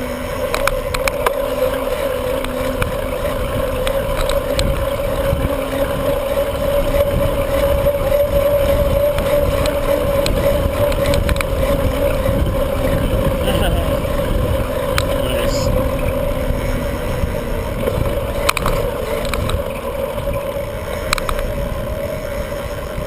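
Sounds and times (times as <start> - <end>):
bicycle riding hum: 0.0 - 23.0
wind rumbling on microphone: 0.0 - 23.0.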